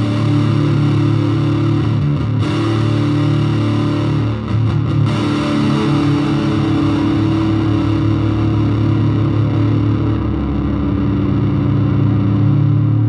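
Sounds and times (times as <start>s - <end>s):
bass guitar chords: 0.0s - 13.0s
distorted electric guitar: 0.0s - 13.0s.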